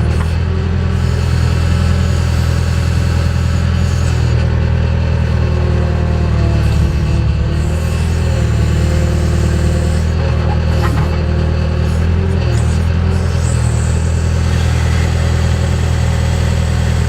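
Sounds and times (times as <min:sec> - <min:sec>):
loud diesel engine running: 0:00.0 - 0:17.0.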